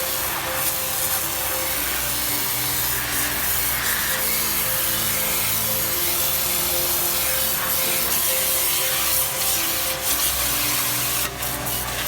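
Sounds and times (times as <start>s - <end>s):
pressure washer water jet hissing: 0.0s - 12.0s.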